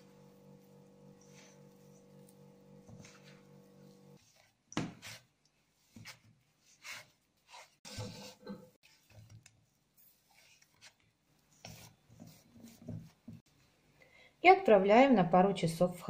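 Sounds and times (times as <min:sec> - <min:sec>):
hands kneading dough: 0:00.0 - 0:13.6.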